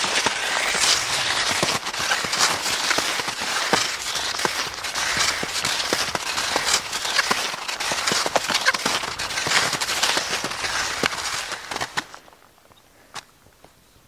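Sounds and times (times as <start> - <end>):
skis sliding over snow: 0.0 - 13.3.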